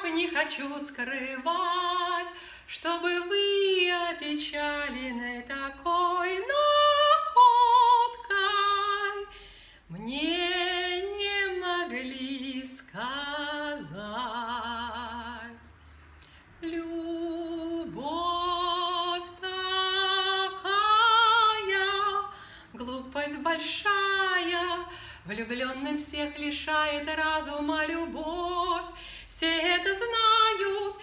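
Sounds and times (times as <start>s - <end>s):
woman singing classical: 0.0s - 31.0s.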